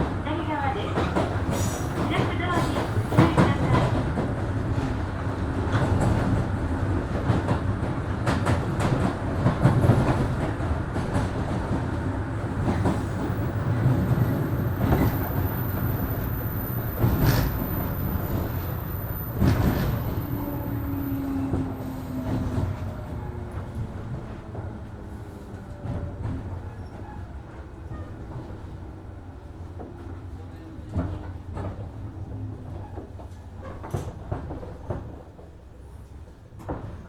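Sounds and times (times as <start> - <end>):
train wheels and motors rumbling: 0.0 - 37.0.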